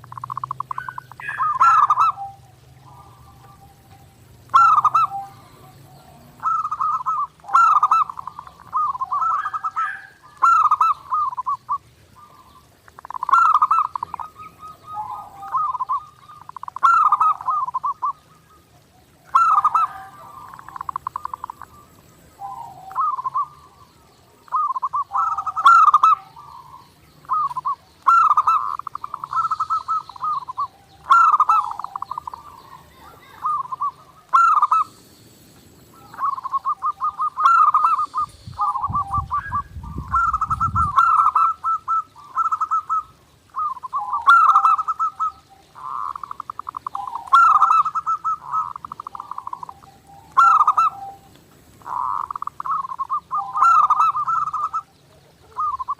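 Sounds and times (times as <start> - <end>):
dove rapid staccato cooing: 0.0 - 55.9.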